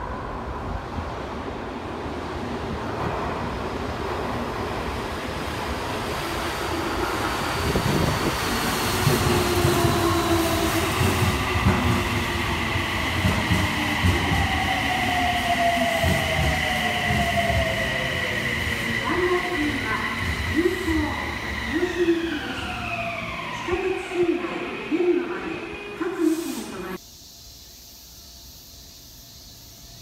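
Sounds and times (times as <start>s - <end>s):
subway train rumble and wheel clatter: 0.0s - 27.0s.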